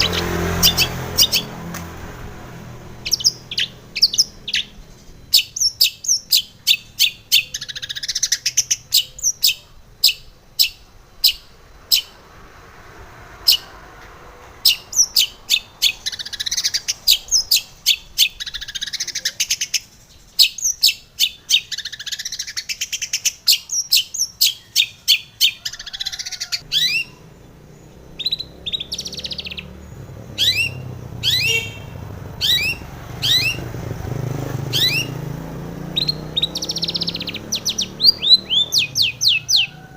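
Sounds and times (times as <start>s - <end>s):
bird singing sharp chirps: 0.0s - 39.8s.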